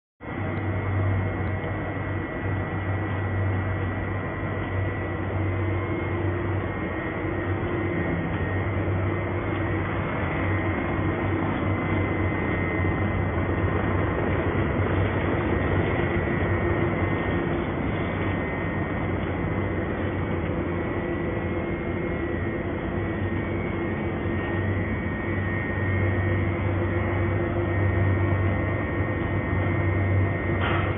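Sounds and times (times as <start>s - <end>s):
machinery hum with high whine: 0.2s - 30.9s
machinery noisy rush: 0.4s - 30.9s.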